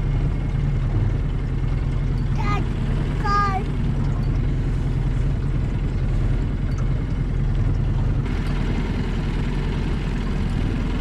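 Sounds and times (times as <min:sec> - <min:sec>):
engine idling: 0:01.4 - 0:07.4, 0:08.1 - 0:11.0.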